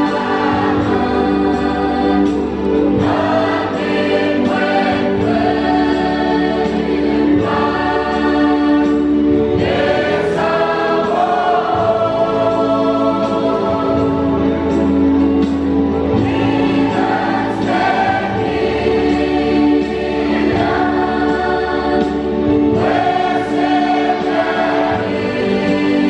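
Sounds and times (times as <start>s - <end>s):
women's choir singing a hymn: 0.0s - 26.0s.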